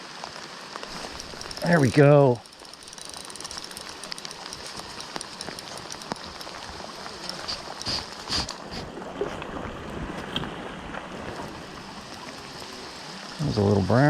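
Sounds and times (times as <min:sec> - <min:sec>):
raindrops pattering: 0:00.0 - 0:08.8, 0:11.2 - 0:14.0
rain and river noise: 0:00.0 - 0:14.0.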